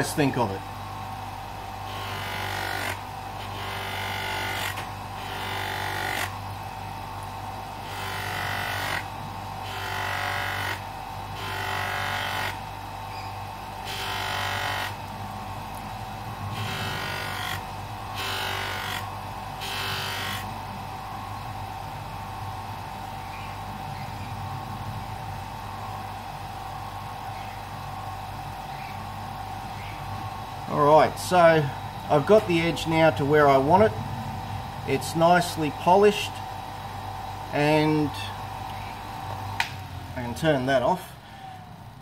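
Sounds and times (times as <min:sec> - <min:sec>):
bench grinder humming: 0:00.0 - 0:41.7.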